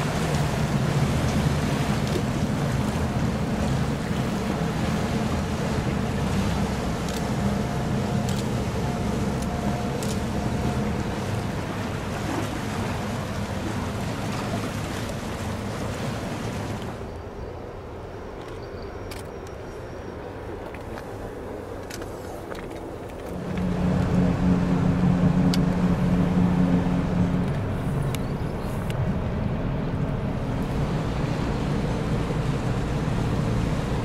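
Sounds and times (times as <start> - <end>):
water wash: 0.0 - 17.2, 20.4 - 34.0
ship machinery rumble: 0.0 - 18.5, 19.1 - 34.0.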